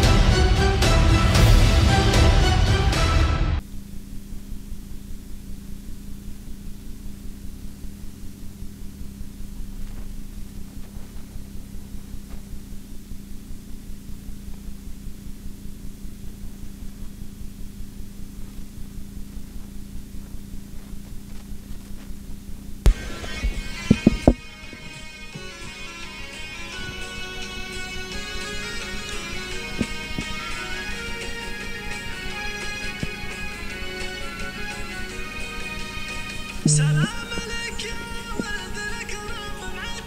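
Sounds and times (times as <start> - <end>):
steady hiss: 3.6 - 40.0
vehicle engine idling: 3.6 - 40.0.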